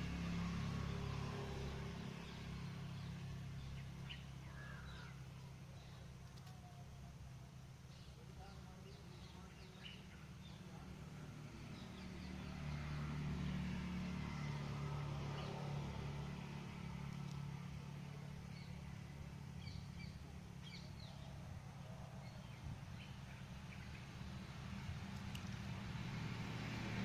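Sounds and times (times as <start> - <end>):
passing vehicle hum: 0.0 - 27.0
small birds chirping: 0.4 - 13.6, 15.2 - 26.2.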